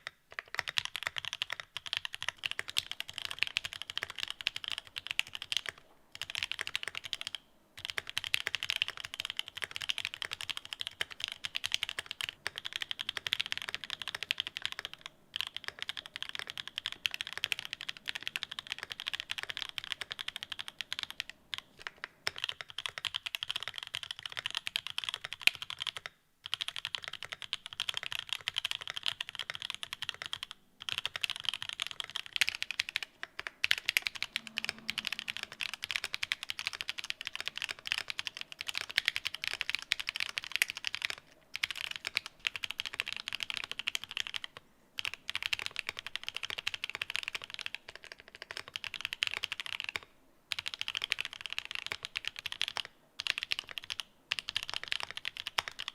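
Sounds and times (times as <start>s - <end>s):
fast typing on mechanical keyboard: 0.0s - 55.9s.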